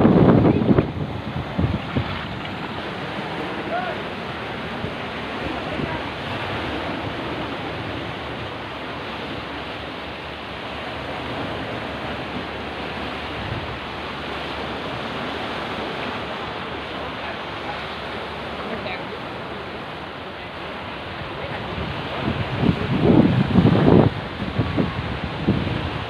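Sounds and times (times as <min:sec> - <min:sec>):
rough sea surf: 0:00.0 - 0:26.0
wind: 0:00.0 - 0:26.0.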